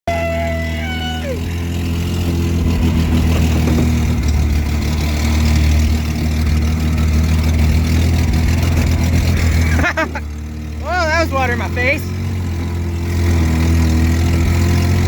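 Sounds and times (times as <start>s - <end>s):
truck engine running: 0.1s - 15.0s.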